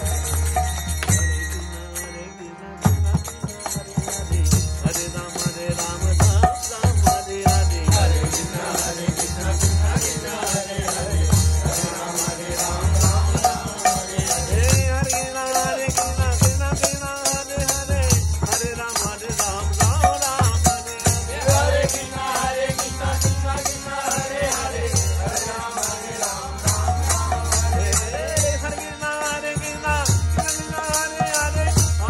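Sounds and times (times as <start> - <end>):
harmonium chords: 0.0 - 32.0
jingling percussion: 0.0 - 32.0
man singing: 0.0 - 32.0.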